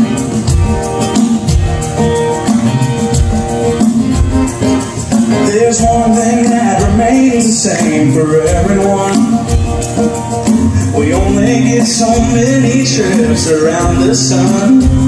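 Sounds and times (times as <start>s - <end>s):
band music with steady beat: 0.0s - 15.0s.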